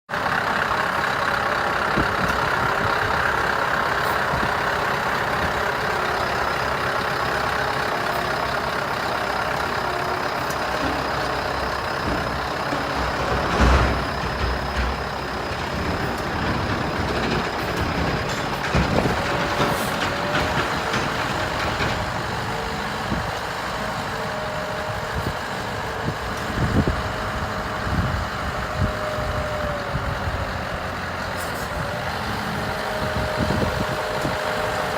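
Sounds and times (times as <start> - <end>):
diesel truck engine running: 0.1 - 34.9.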